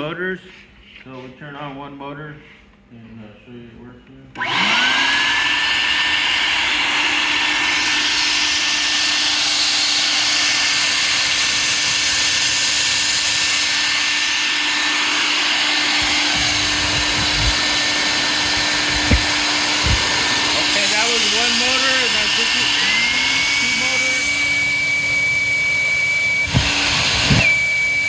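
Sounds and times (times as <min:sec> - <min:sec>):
dust collector vacuum running: 0:04.4 - 0:28.0.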